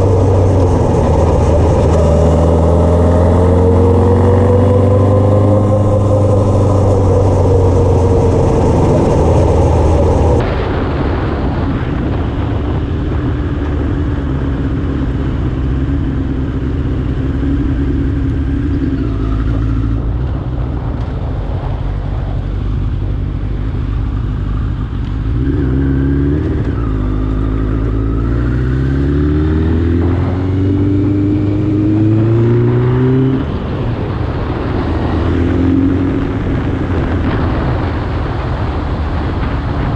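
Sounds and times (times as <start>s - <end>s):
motorcycle engine revving: 0.0s - 10.6s, 11.9s - 39.9s.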